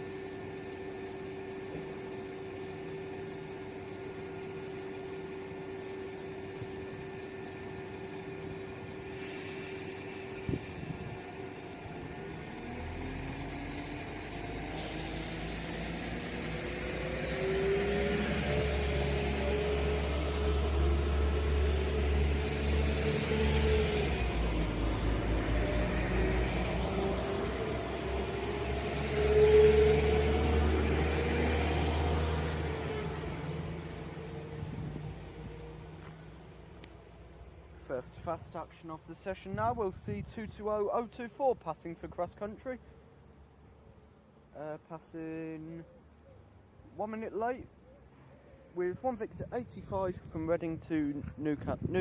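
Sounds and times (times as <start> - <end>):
diesel train engine whining: 0.0 - 45.6.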